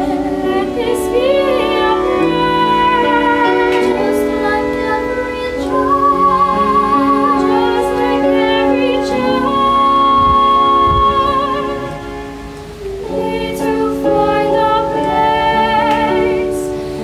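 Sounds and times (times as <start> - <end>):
children singing duet: 0.0 - 17.0
violin accompaniment: 0.0 - 17.0.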